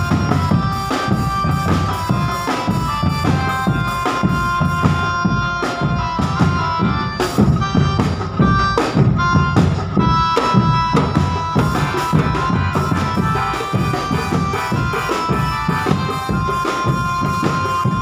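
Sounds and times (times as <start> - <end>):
drums and percussion: 0.0 - 18.0
reedy wind instrument melody: 0.0 - 18.0.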